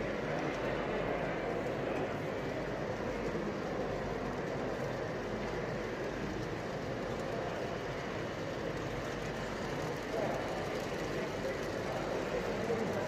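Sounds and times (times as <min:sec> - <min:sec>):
hall crowd hubbub: 0:00.0 - 0:13.0
model train running: 0:00.0 - 0:13.0.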